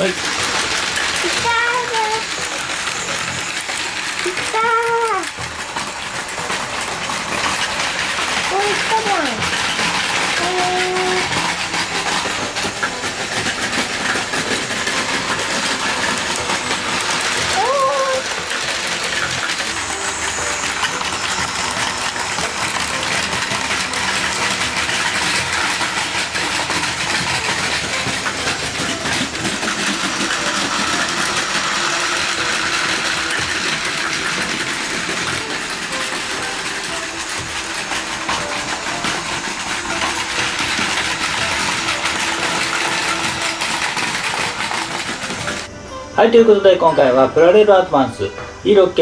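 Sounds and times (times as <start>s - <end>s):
toy train running on plastic track: 0.0s - 49.0s.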